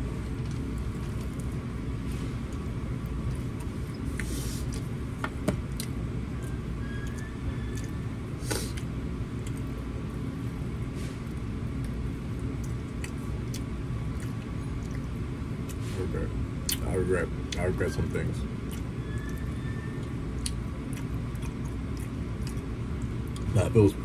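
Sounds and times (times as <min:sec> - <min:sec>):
low machinery rumble: 0:00.0 - 0:24.0.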